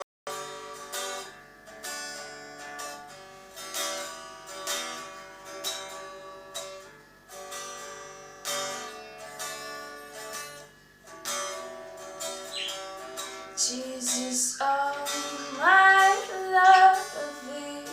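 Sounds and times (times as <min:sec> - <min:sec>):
acoustic guitar strumming chords: 0:00.3 - 0:17.9.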